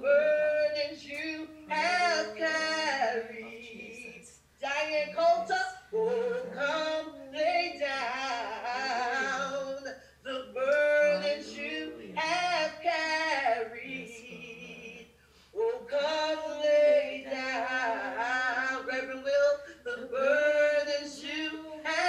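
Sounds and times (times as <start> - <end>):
person singing hymn unaccompanied: 0.0 - 22.0.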